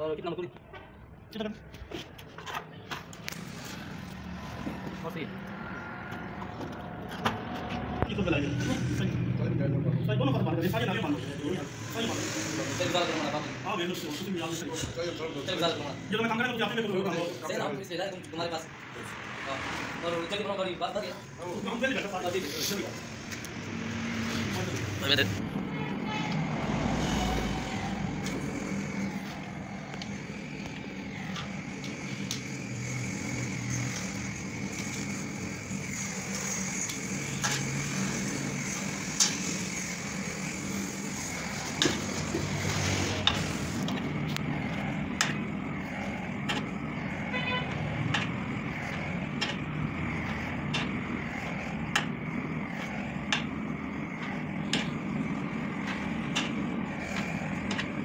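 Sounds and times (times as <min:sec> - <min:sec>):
blowtorch hissing: 0:03.2 - 0:09.5, 0:10.3 - 0:58.0.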